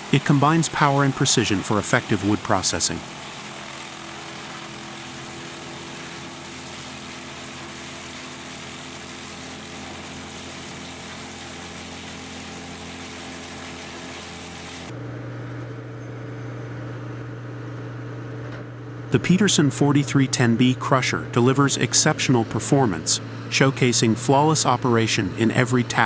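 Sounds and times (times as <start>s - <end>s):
deep machine engine hum: 0.0s - 26.0s
wood chipper engine running: 0.0s - 26.0s.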